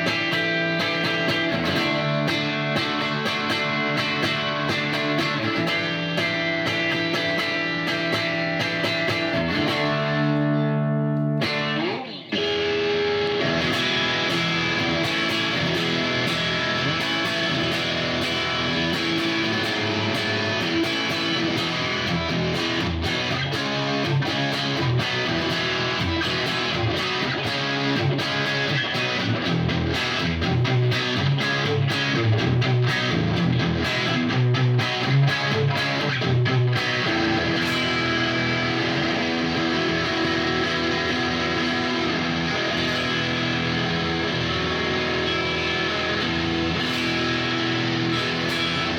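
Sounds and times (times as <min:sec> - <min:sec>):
electric guitar through amp: 0:00.0 - 0:48.9.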